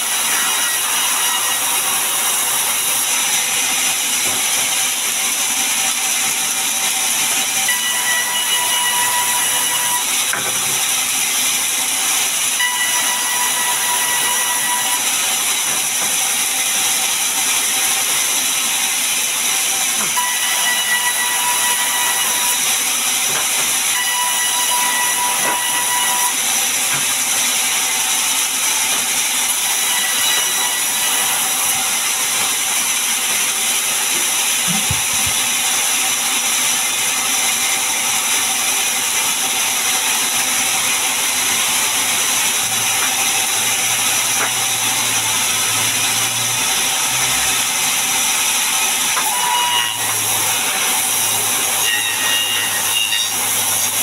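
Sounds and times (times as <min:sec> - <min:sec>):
band saw running with high hiss: 0:00.0 - 0:54.0.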